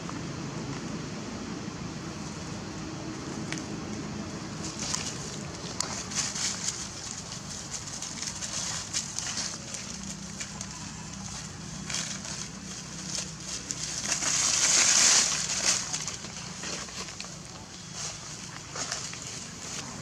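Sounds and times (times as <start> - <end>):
dry leaves crackling and rustling: 2.2 - 20.0.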